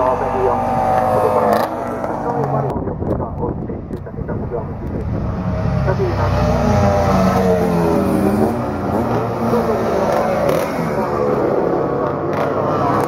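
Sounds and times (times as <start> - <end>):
motorcycles passing by: 0.0 - 2.7, 4.6 - 13.0.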